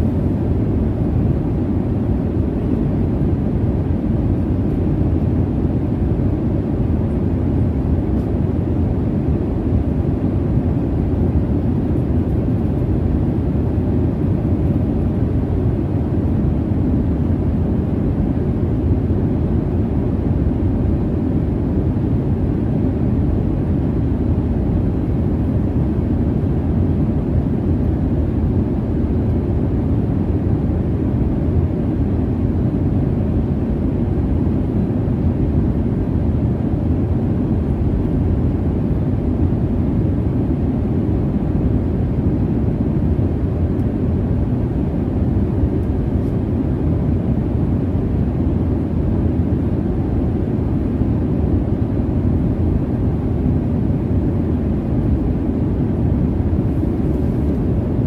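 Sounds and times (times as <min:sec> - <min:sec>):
airliner cabin jet rumble: 0:00.0 - 0:58.0.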